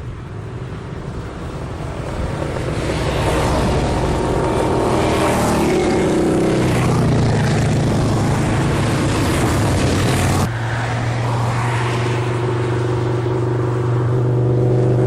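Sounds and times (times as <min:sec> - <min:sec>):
motorcycle engines running: 0:00.0 - 0:15.0.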